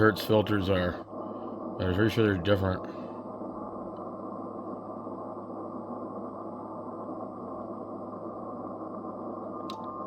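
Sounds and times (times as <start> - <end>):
low hum: 0.0 - 10.0
radio static hiss: 0.0 - 10.0.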